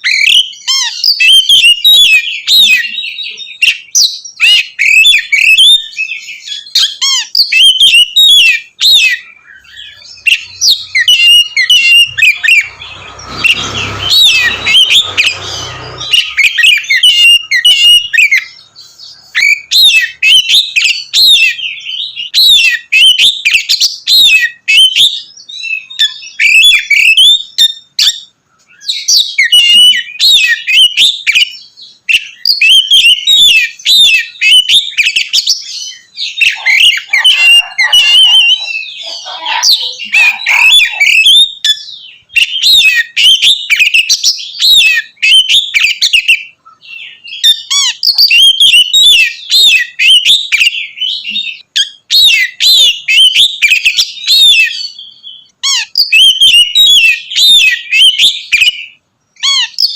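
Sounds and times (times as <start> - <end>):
bird singing whistles and chatter: 0.0 - 59.9.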